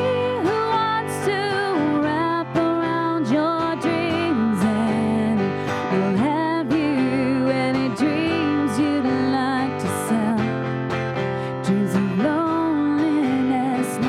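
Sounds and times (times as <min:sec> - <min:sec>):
female duo singing: 0:00.0 - 0:10.6, 0:11.7 - 0:14.0
strummed acoustic guitar: 0:00.0 - 0:14.0.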